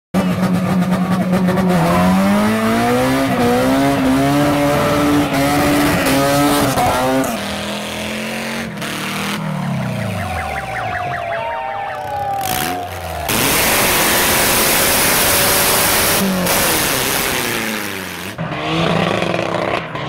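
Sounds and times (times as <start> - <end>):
car engine revving: 0.2 - 20.0.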